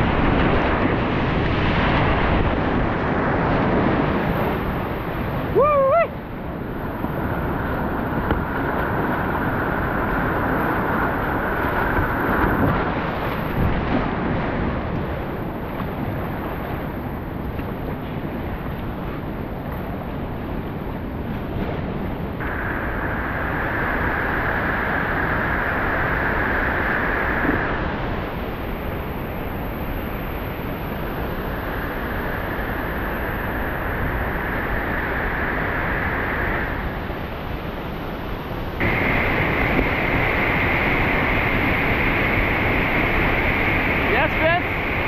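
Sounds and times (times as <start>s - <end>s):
whitewater rapids roaring: 0.0s - 17.6s, 22.4s - 45.0s.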